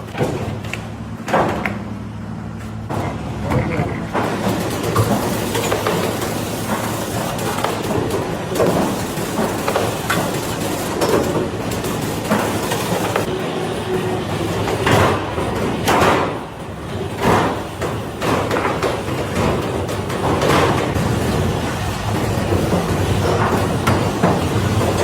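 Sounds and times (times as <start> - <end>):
factory machinery humming: 0.0 - 25.0.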